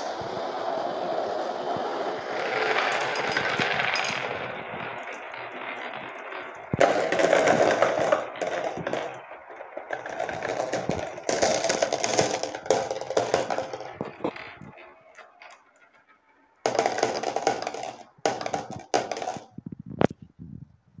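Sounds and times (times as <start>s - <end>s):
glass marbles rolling and clattering: 0.0s - 20.1s.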